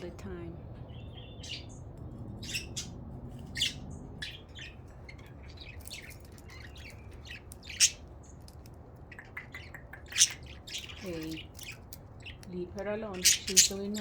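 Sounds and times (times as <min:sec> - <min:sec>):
budgerigars chirping and squawking: 0:00.4 - 0:14.0.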